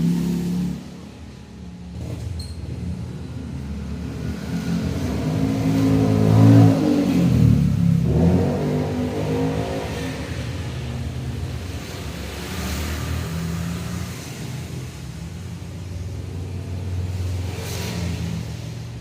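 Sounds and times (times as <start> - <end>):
engine revving: 0.0 - 1.2, 3.0 - 15.6, 16.2 - 19.0.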